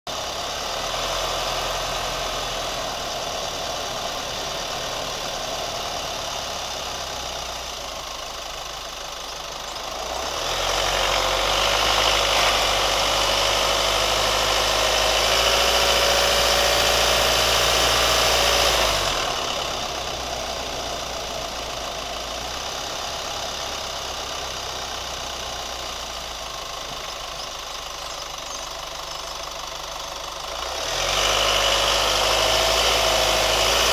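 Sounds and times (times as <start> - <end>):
engine running with ticking: 0.1 - 33.9.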